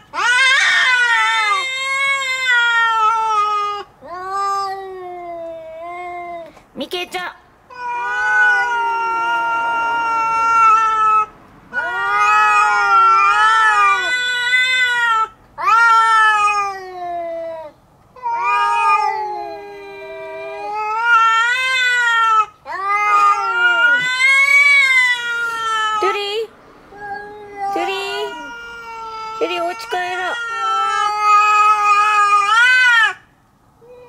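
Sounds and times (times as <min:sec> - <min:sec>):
cats yowling: 0:00.0 - 0:06.5, 0:07.7 - 0:26.3, 0:26.9 - 0:34.0.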